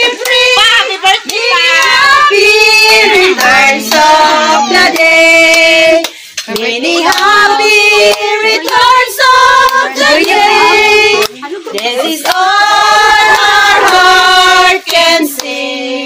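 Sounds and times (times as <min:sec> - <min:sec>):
woman singing slow melody: 0:00.0 - 0:16.0.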